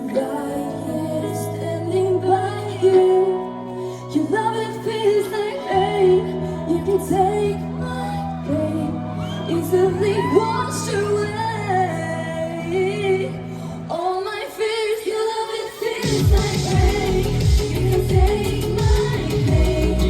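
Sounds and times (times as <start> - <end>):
live pop song by band: 0.0 - 20.0
person singing: 0.0 - 20.0.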